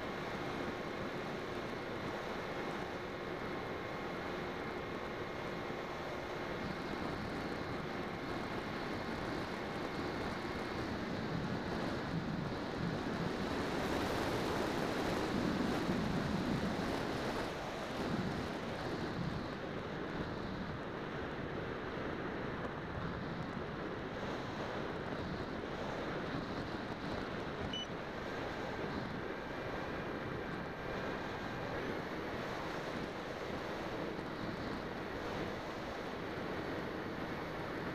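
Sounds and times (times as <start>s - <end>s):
motor and propeller whine: 0.0s - 37.9s
wind rushing over microphone: 6.5s - 37.9s.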